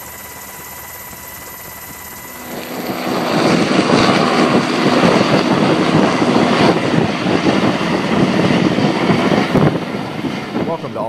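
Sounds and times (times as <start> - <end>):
aircraft engine roar: 0.0 - 11.0.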